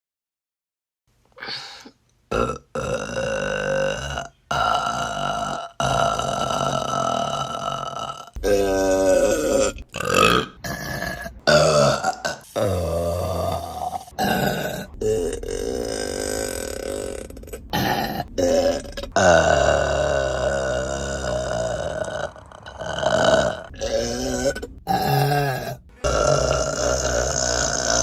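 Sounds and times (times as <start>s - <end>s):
women burping: 1.4s - 28.0s.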